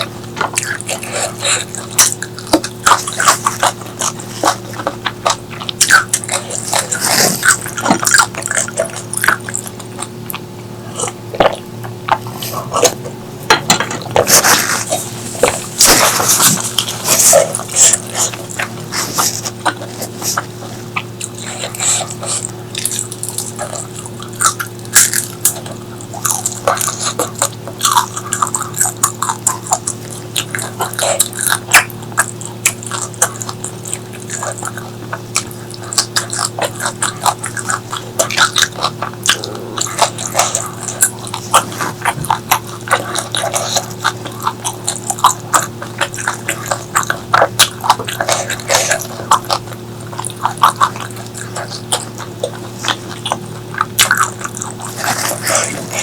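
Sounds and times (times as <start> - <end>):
low hum: 0.0 - 56.0
person chewing with wet smacks: 0.0 - 56.0.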